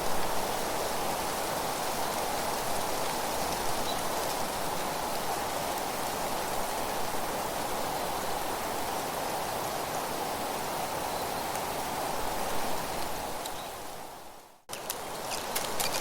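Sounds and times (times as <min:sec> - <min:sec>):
wind with leaves rustling: 0:00.0 - 0:16.0.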